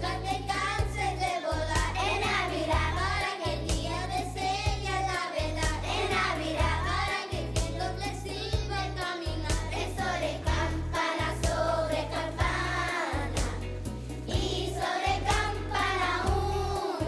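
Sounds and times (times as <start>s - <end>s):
children's choir singing: 0.0s - 13.7s, 14.3s - 17.0s
instrumental accompaniment with beat: 0.0s - 17.0s.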